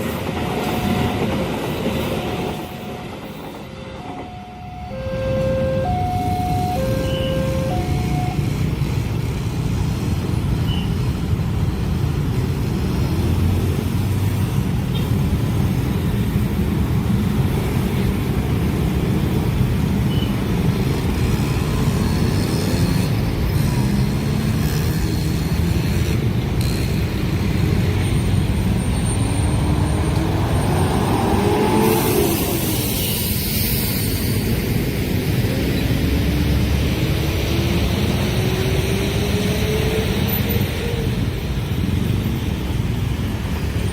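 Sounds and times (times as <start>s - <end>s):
train rumbling past: 0.0s - 43.9s.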